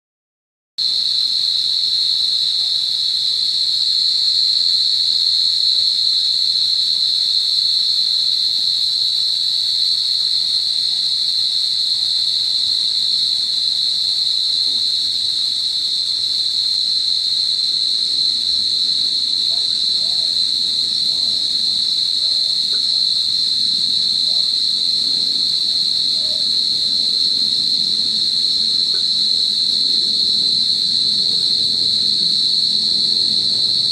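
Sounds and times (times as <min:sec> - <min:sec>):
night insects droning: 0:00.8 - 0:33.9.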